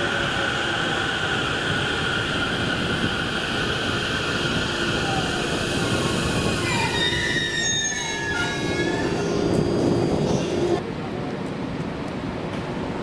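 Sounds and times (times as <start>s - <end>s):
high-pitched squeal: 0.0s - 10.8s
train rumbling on rails: 0.0s - 13.0s.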